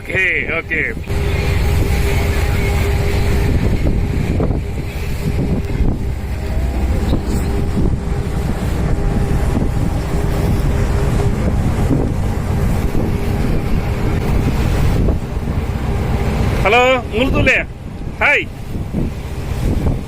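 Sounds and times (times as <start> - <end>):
ship engine droning: 0.0 - 20.0
wind buffeting microphone: 0.0 - 20.0.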